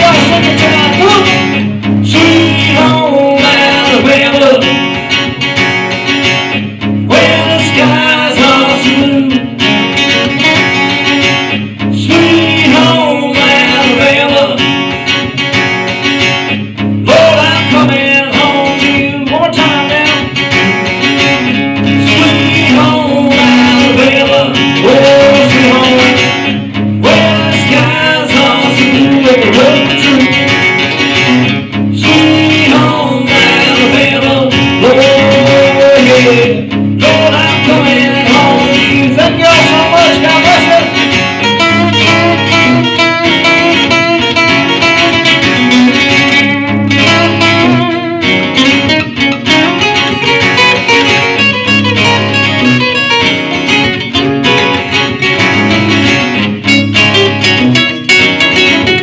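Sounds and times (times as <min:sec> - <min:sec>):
country acoustic guitar music: 0:00.0 - 0:59.0.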